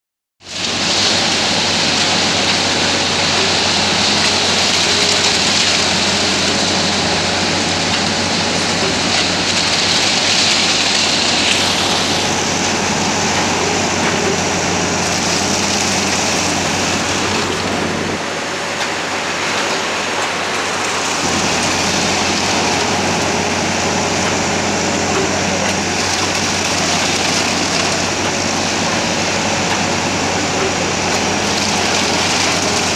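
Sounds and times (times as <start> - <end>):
concrete pump rushing noise: 0.4 - 32.9
engine low hum: 0.4 - 32.9.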